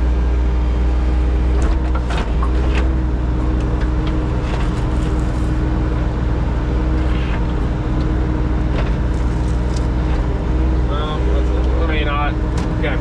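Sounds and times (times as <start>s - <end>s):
construction machine engine droning: 0.0s - 13.0s.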